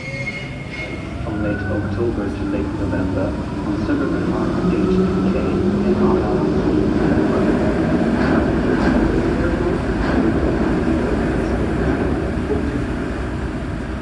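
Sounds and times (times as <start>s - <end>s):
metro train rolling rumble: 0.0s - 14.0s.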